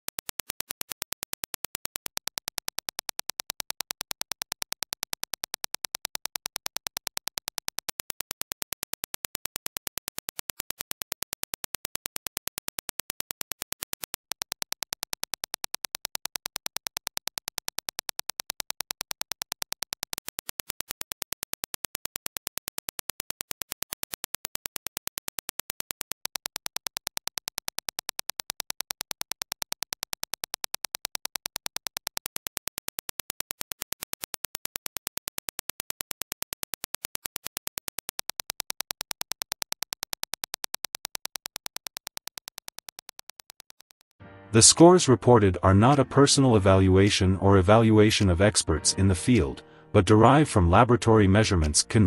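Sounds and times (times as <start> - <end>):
rapid train of sharp clicks: 0.0 - 44.2.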